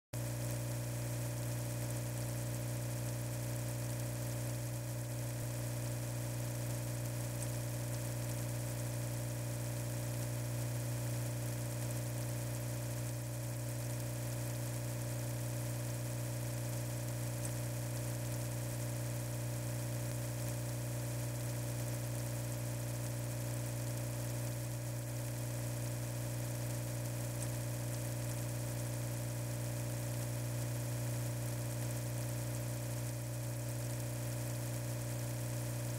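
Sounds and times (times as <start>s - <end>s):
low electric hum with buzz: 0.2s - 35.9s.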